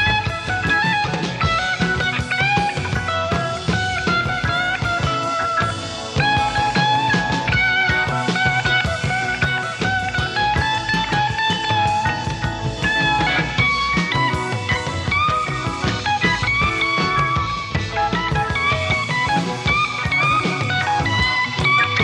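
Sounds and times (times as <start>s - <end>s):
drums: 0.0s - 22.0s
lead electric guitar long notes: 0.0s - 22.0s
rhythm guitar: 0.0s - 22.0s.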